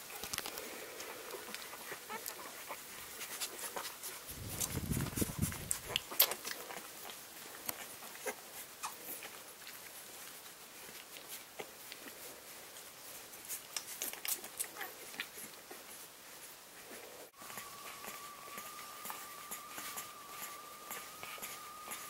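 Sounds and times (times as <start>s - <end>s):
puppies suckling clicks and smacks: 0.0s - 22.0s.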